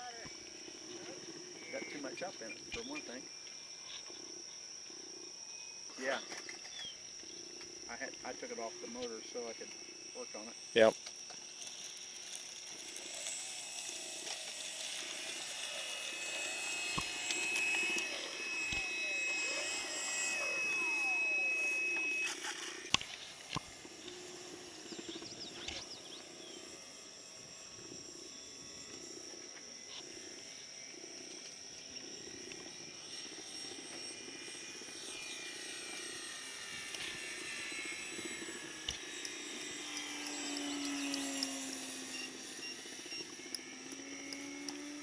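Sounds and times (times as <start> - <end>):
model airplane motor whining: 0.0 - 45.0.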